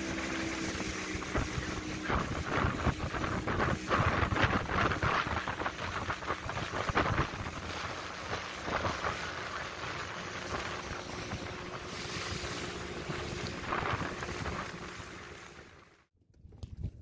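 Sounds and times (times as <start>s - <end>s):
water splashing against boat hull: 0.0s - 16.0s
wind buffeting microphone: 0.6s - 15.1s.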